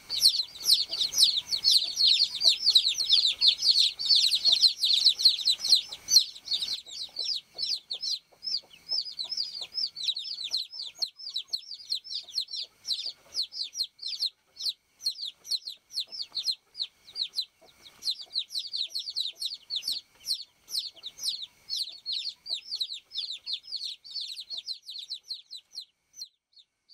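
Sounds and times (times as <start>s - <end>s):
baby chicks peeping: 0.0s - 26.9s.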